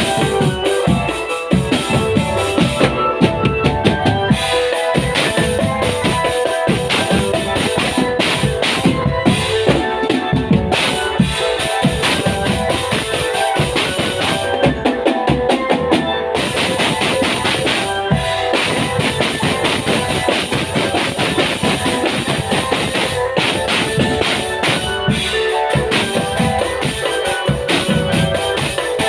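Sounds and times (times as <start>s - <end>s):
marching drum band playing: 0.0s - 29.0s.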